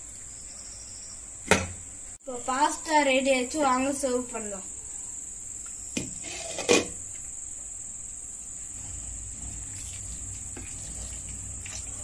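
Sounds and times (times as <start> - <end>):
cricket chirring: 0.0 - 1.4, 2.3 - 12.0.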